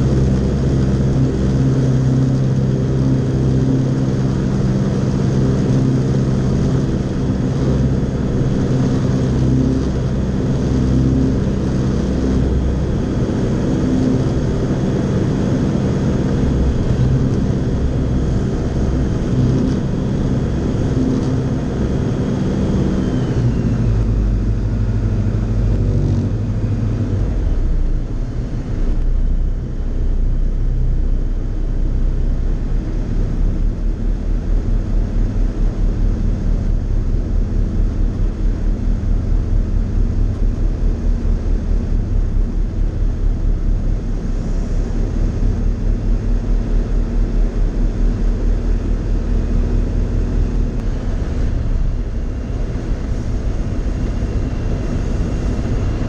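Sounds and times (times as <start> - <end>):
wind noise over cabin: 0.0 - 30.2, 32.5 - 56.0
ultralight engine and propeller droning: 0.0 - 56.0.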